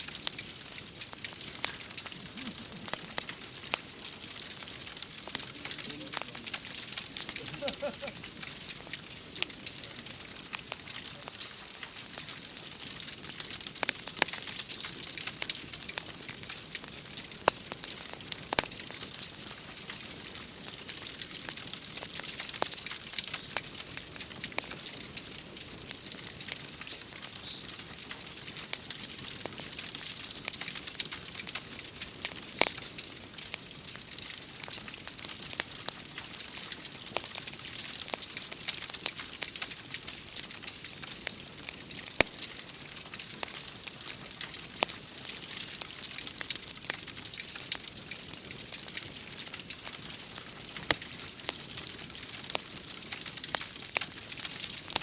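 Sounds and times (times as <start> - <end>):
rain hissing: 0.0 - 55.0
sharp pops from fire: 0.0 - 55.0
wood fire crackling: 0.0 - 55.0.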